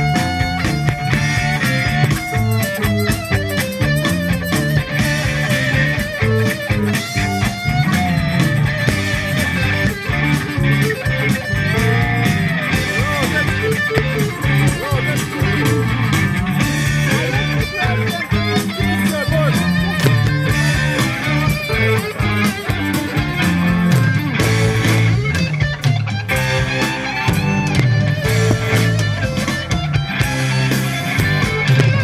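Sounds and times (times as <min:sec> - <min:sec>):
blues rock band playing: 0:00.0 - 0:32.0
lead guitar bending notes: 0:00.0 - 0:32.0.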